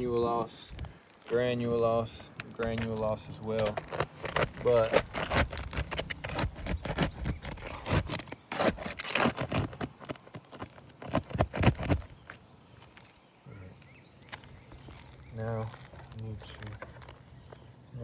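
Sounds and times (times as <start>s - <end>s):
shingle scraping and rubbing: 0.0s - 13.2s, 14.2s - 17.8s.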